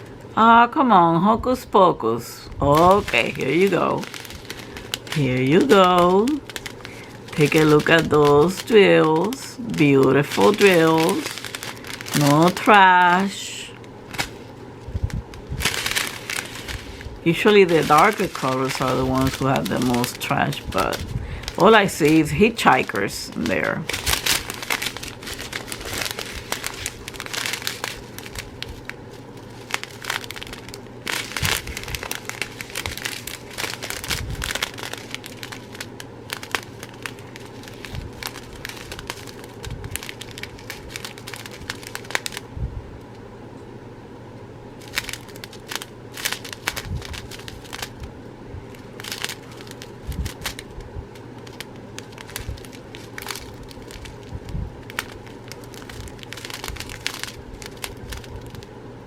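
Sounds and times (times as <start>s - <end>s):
plastic bags crinkling: 2.4s - 42.5s, 44.8s - 58.8s.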